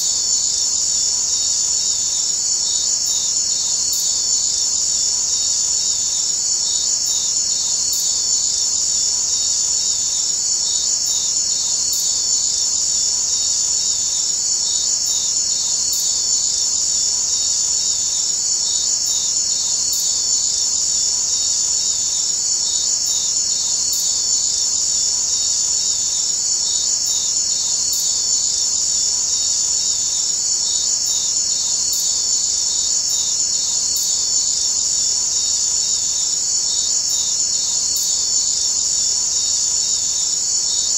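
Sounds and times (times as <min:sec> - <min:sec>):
cricket-like insect trilling: 0:00.0 - 0:40.9.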